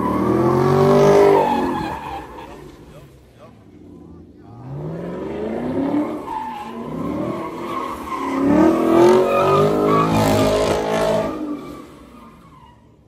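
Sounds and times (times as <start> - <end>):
car engine revving: 0.0 - 13.0
tyres spinning on wet pavement: 0.0 - 13.0.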